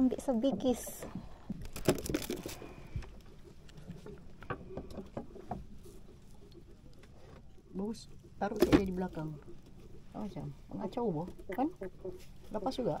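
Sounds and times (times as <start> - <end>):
fishing gear knocking and rustling: 0.7 - 13.0.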